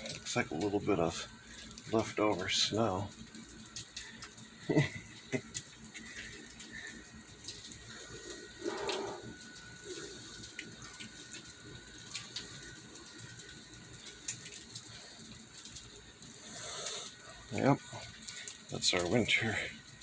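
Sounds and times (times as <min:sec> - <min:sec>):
faint steady hiss: 0:00.0 - 0:20.0
water dripping: 0:00.0 - 0:20.0.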